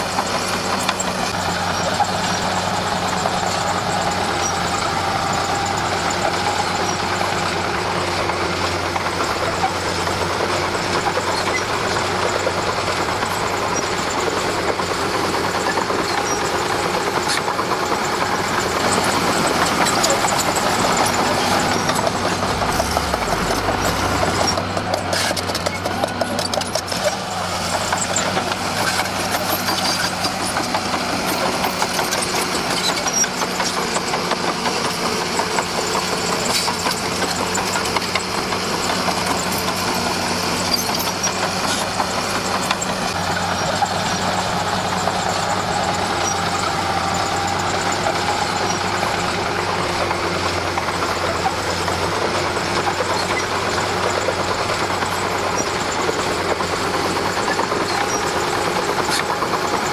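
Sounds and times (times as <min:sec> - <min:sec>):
bulldozer diesel engine running: 0:00.0 - 0:59.9
fast rattle: 0:03.2 - 0:59.9.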